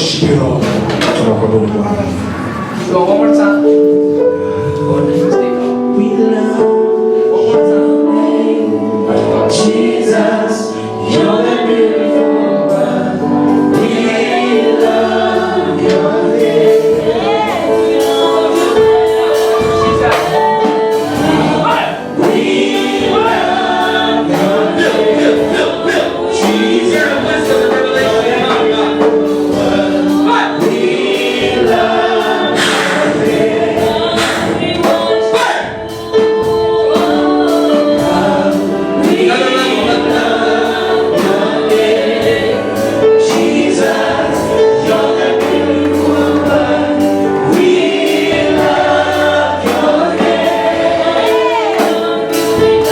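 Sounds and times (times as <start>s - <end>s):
congregation singing gospel song: 0.0s - 52.9s
instrumental accompaniment: 0.0s - 52.9s.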